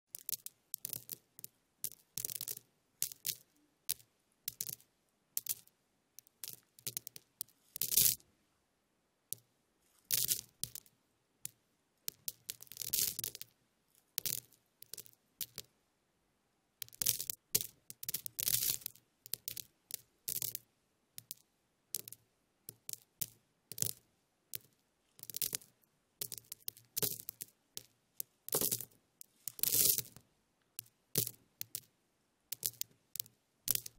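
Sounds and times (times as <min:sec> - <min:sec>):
crackles snaps and rustles: 0:00.1 - 0:08.2, 0:09.3 - 0:15.7, 0:16.8 - 0:21.4, 0:22.0 - 0:31.9, 0:32.5 - 0:33.9.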